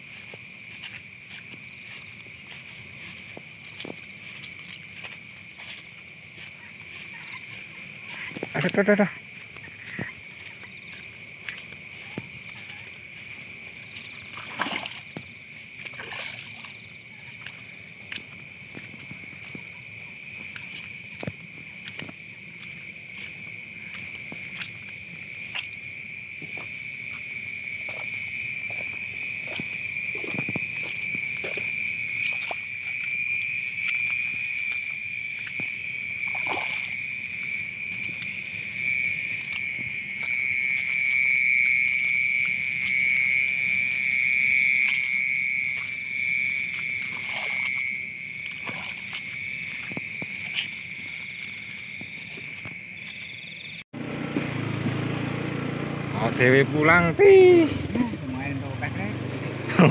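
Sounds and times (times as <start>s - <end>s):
frogs and insects trilling: 0.0s - 53.8s, 54.6s - 59.9s.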